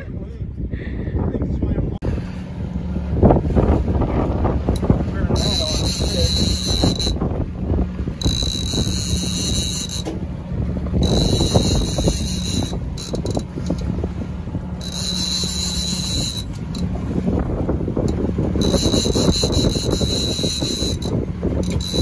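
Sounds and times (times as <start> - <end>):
wind buffeting microphone: 0.0 - 22.0
boat engine humming: 1.7 - 22.0
water slapping hull: 2.0 - 22.0.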